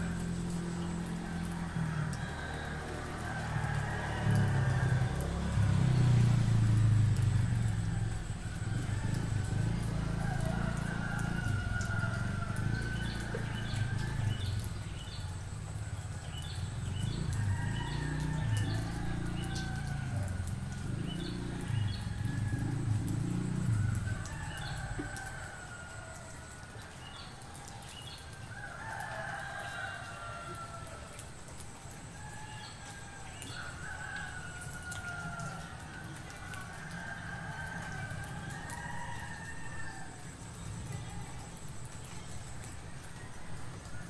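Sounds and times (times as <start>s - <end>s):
roosters crowing: 1.0s - 6.8s, 7.4s - 14.8s, 17.0s - 26.8s, 28.4s - 41.6s.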